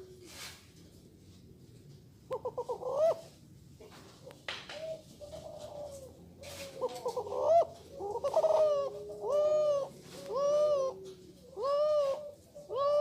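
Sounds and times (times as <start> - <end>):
dove cooing: 2.3 - 13.0.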